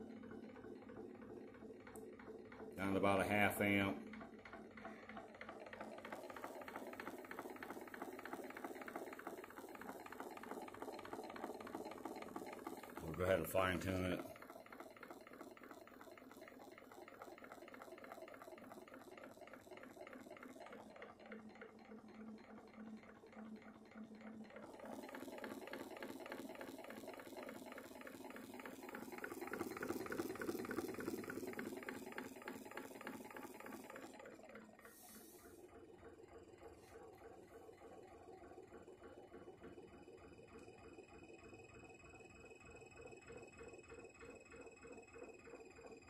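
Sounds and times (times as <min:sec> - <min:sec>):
pulse motor pulsing: 0:00.0 - 0:46.0.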